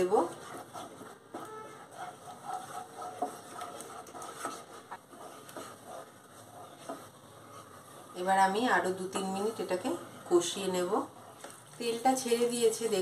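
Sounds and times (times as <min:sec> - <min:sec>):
wooden spatula scraping a pan: 0:00.0 - 0:13.0.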